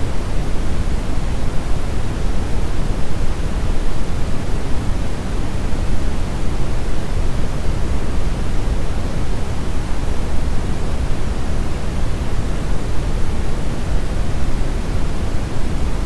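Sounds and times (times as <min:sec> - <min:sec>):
brown noise hiss: 0:00.0 - 0:16.0.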